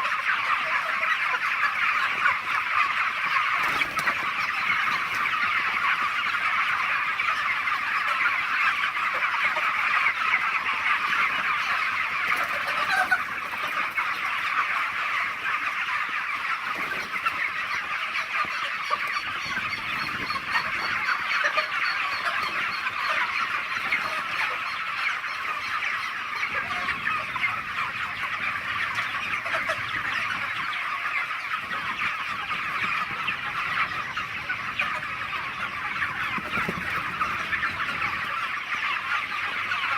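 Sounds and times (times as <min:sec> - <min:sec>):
chickens cheeping and clucking: 0:00.0 - 0:39.9.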